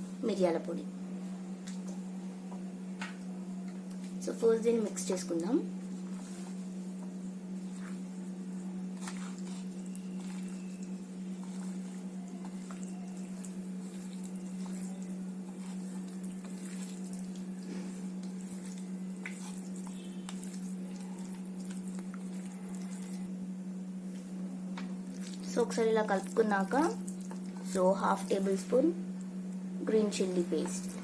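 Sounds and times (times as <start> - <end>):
steady low hum: 0.0 - 31.0
wet squelches of mixing fish: 5.8 - 31.0.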